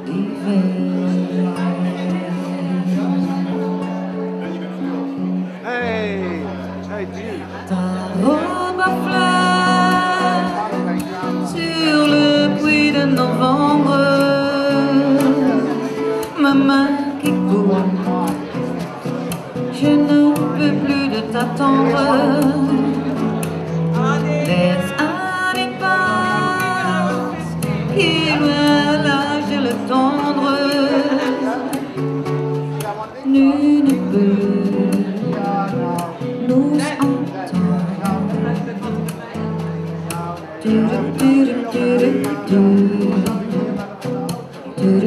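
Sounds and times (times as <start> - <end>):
person singing: 0.0 - 4.0, 7.4 - 18.8, 19.7 - 39.3, 40.1 - 45.0
acoustic guitar playing: 0.0 - 45.0.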